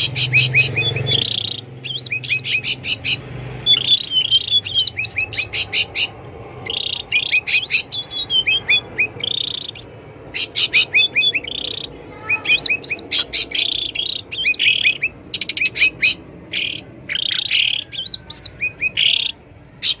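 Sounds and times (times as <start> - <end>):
songbirds chirping sharply: 0.0 - 20.0.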